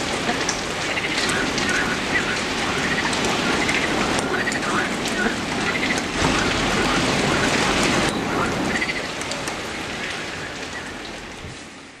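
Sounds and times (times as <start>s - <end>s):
rain falling on foliage: 0.0s - 12.0s.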